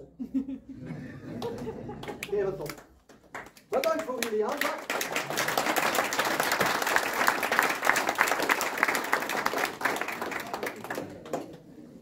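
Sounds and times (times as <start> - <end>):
audience applauding: 1.3 - 11.7.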